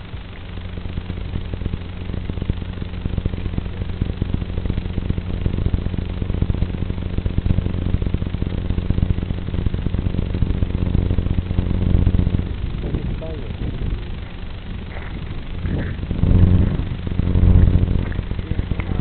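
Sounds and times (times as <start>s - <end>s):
low crackly hum: 0.0s - 19.0s.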